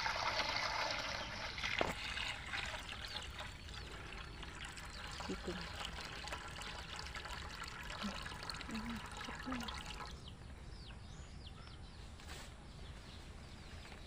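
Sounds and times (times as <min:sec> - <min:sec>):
birds chirping: 0:00.8 - 0:14.0.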